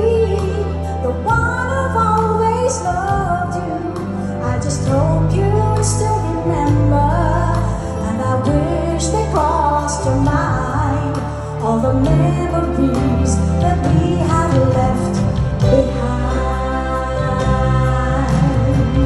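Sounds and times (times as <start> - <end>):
band with keyboard and bass: 0.0 - 19.0
woman singing into microphone: 0.0 - 19.0.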